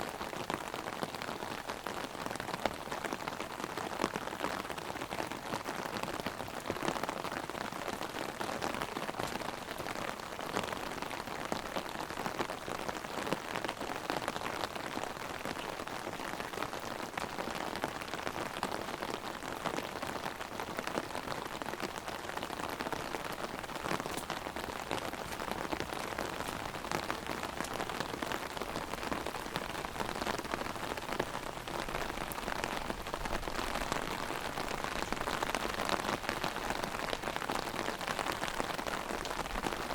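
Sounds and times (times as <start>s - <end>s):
heavy rain on umbrella: 0.0s - 39.9s.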